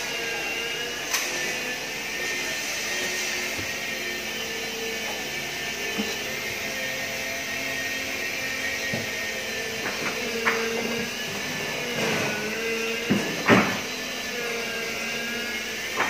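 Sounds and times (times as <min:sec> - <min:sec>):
machine whirring: 0:00.0 - 0:16.0.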